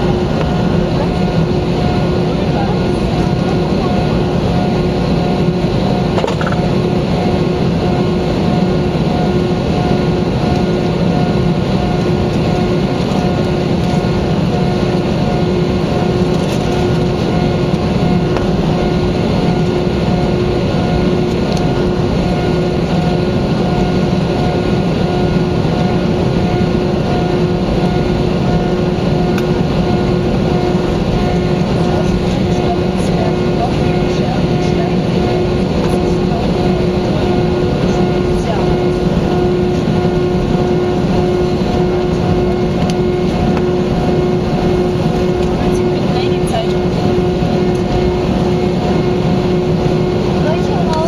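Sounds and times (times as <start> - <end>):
airplane cabin engine roar: 0.0 - 51.0.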